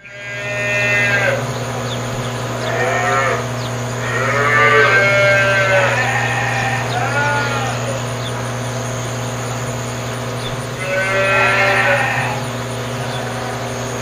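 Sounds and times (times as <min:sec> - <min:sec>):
background hum: 0:00.0 - 0:14.0
cows mooing: 0:00.0 - 0:14.0.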